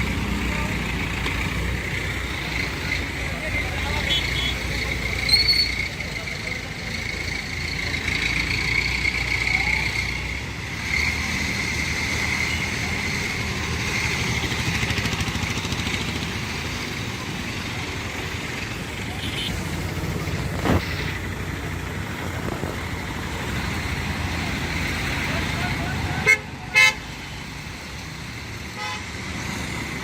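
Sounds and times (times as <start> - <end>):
vehicle engine running: 0.0 - 28.6
traffic background noise: 0.0 - 30.0.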